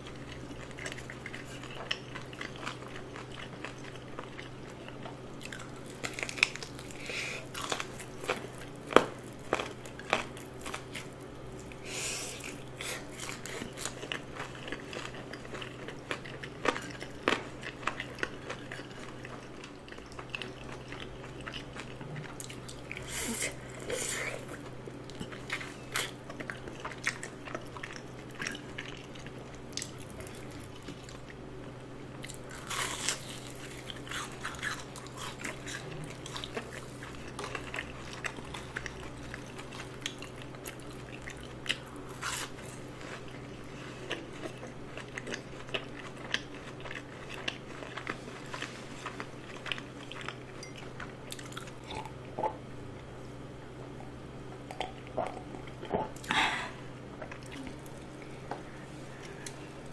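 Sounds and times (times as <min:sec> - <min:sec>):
crunchy chewing of fried chicken: 0:00.0 - 0:59.9.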